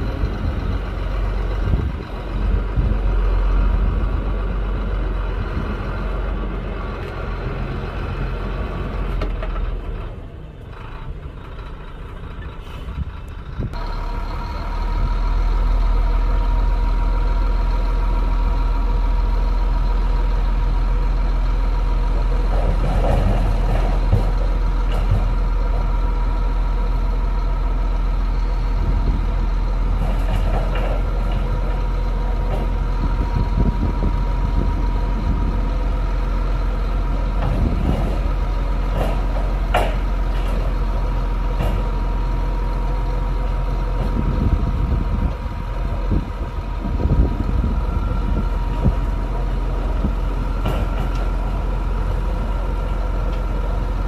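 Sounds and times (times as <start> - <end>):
heavy diesel engine running: 0.0 - 54.0
machinery rattling and clanking: 0.0 - 54.0.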